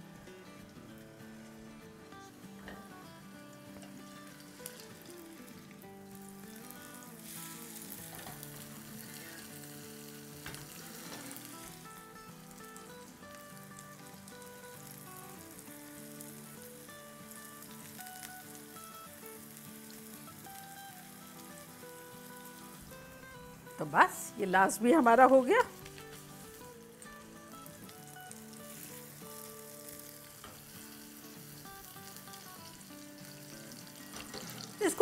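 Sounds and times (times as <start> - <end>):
background music: 0.0 - 35.0
patties sizzling in oil: 0.0 - 35.0.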